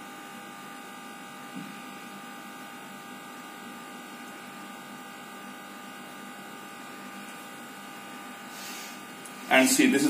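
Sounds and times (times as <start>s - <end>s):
high electrical whine: 0.0s - 10.0s.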